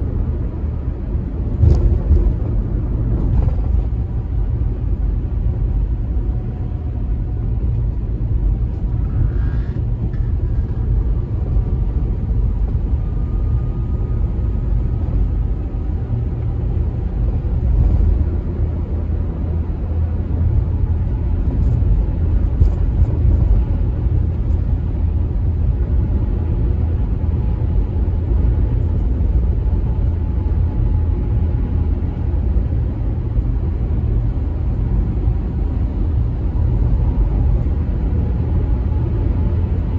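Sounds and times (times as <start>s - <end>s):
road and tyre rumble in car: 0.0s - 39.9s.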